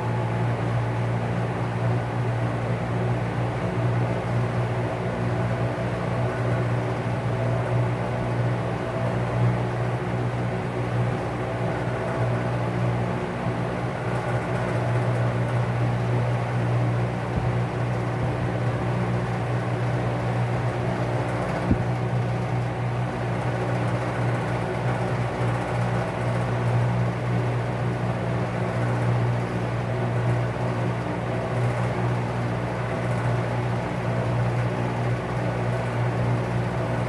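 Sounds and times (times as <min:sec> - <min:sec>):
fan motor humming: 0:00.0 - 0:37.0.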